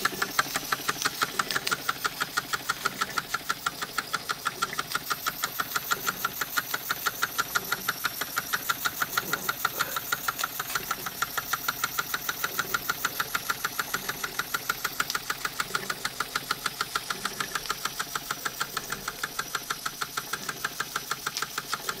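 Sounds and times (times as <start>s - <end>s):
toy steam engine running: 0.0s - 22.0s.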